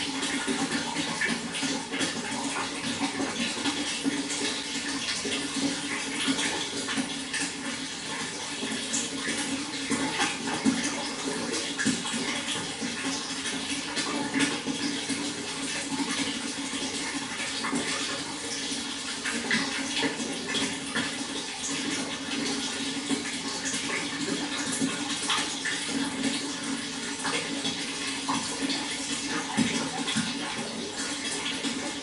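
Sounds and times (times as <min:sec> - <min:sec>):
water flowing with splashes: 0:00.0 - 0:32.0.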